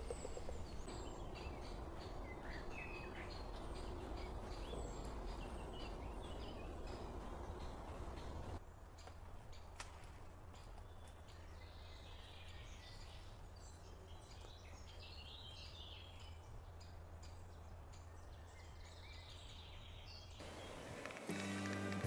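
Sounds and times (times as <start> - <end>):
small birds chirping: 0.0 - 9.8, 10.4 - 22.0.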